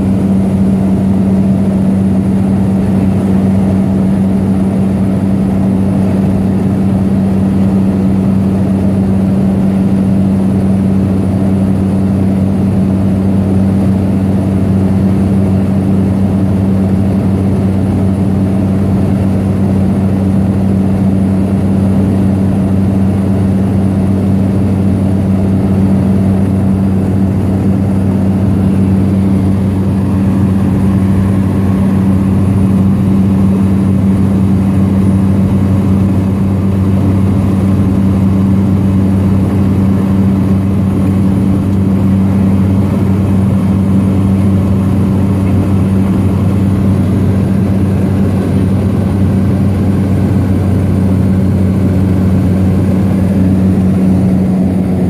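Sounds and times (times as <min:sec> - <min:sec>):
plane engine and propeller drone: 0:00.0 - 0:55.0.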